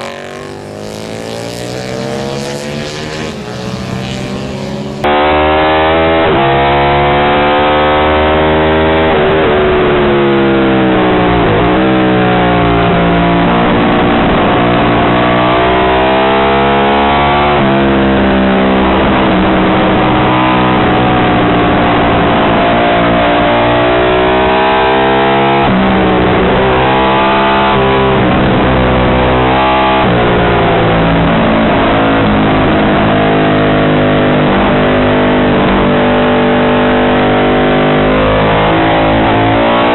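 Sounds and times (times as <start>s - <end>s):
racing motorcycle engine accelerating: 0.0s - 39.9s.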